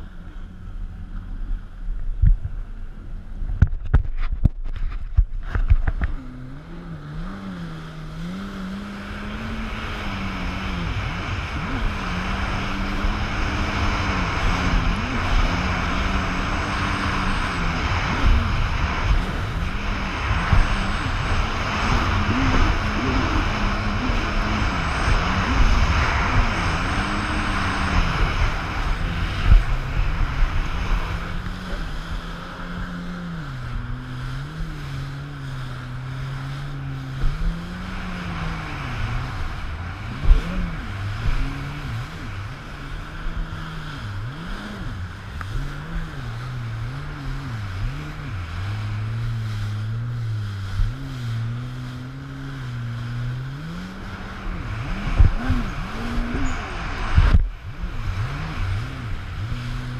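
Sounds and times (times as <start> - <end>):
rush of spray and wind: 3.4 - 59.9
watercraft engine revving: 5.2 - 59.9.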